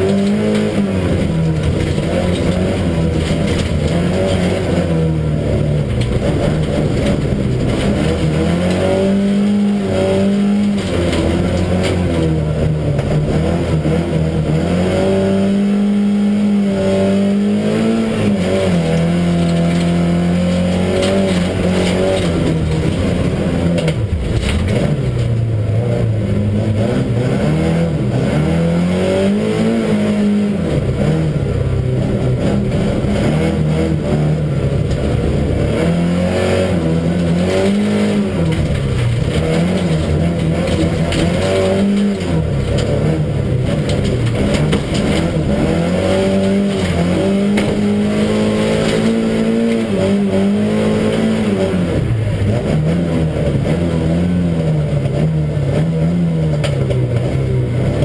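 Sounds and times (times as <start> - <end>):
car engine revving: 0.0 - 58.0
tyre and road noise: 0.0 - 58.0.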